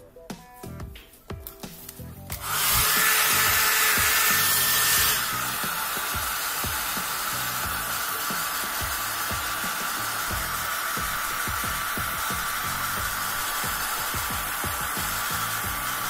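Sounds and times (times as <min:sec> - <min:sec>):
hair dryer blowing with a whine: 0:02.3 - 0:16.0.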